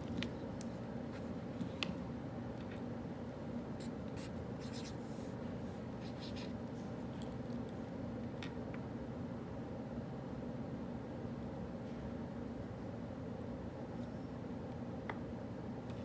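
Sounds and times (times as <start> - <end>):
cafe background hum: 0.0 - 16.0.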